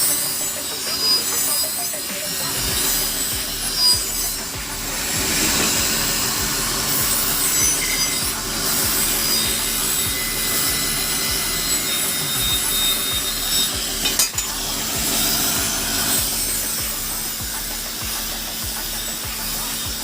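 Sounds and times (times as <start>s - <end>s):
abrasive rasping on steel: 0.0s - 20.0s.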